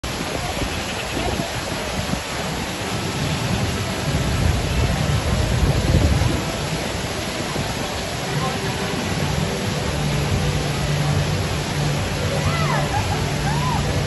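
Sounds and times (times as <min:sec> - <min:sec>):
crowd hubbub: 0:00.0 - 0:14.0
wind buffeting microphone: 0:00.0 - 0:14.0.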